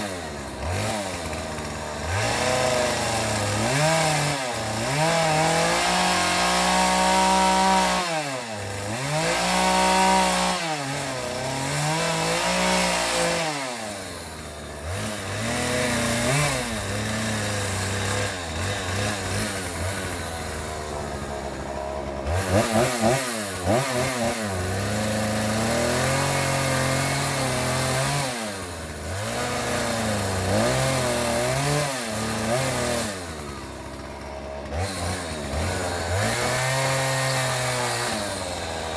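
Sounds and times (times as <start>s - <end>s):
power tool motor cutting wood: 0.0s - 38.9s.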